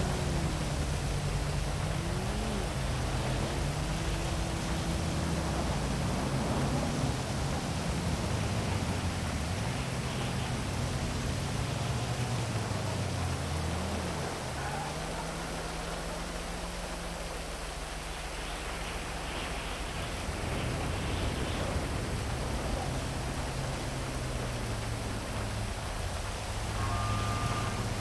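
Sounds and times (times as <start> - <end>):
heavy rain hiss: 0.0 - 28.0
vehicle engines humming: 0.0 - 28.0.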